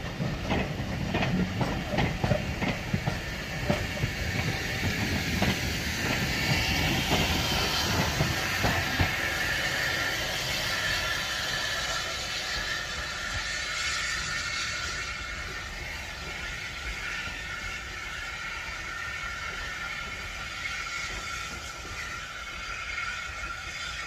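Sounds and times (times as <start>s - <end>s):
steam locomotive hissing: 0.0s - 24.0s
train wheels clicking over rail joints: 0.0s - 24.0s.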